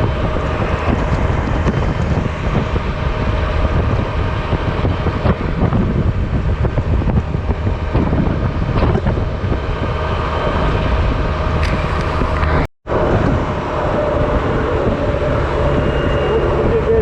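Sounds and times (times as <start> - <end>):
road noise: 0.0 - 17.0
wind blowing across microphone: 0.0 - 17.0.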